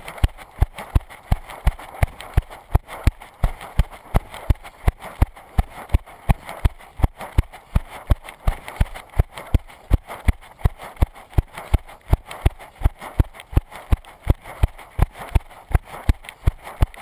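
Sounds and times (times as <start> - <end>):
running footsteps on dirt: 0.0 - 17.0
rustling: 0.0 - 17.0.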